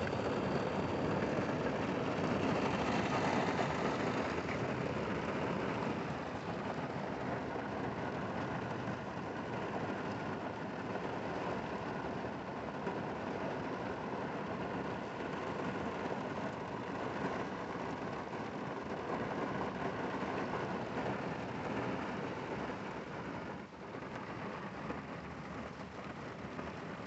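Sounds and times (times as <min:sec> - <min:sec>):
car engine and road noise: 0:00.0 - 0:27.0
rain on car roof: 0:00.0 - 0:27.0.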